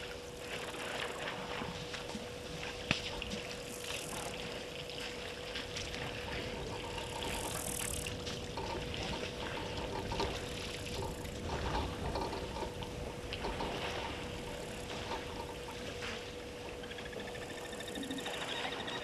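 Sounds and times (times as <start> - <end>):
faint steady hum: 0.0 - 19.0
water sloshing and trickling: 0.0 - 19.0.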